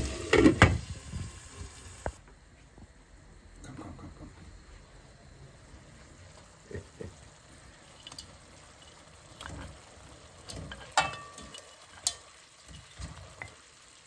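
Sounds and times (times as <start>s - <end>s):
pot simmering: 0.0s - 2.2s, 4.9s - 14.0s.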